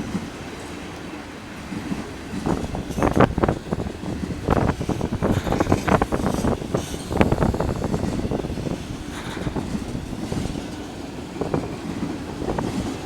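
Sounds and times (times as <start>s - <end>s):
railroad cars rumbling: 0.0s - 13.0s
wheels clacking over rail joints: 0.0s - 13.0s.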